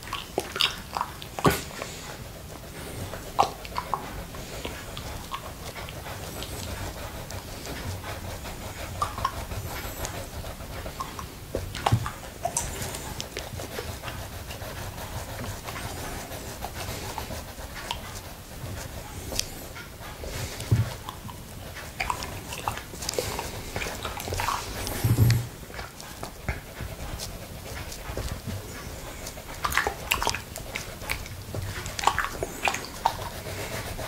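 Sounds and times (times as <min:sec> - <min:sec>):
wet licking and mouth sounds: 0:00.0 - 0:34.0.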